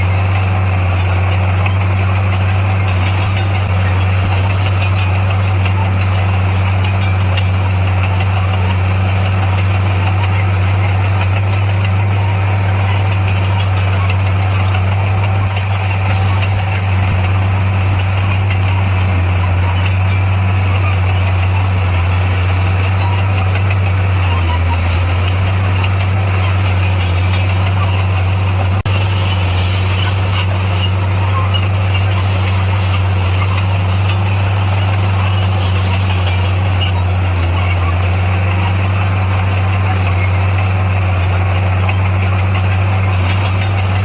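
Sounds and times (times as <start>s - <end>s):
construction machine diesel engine: 0.0s - 44.0s.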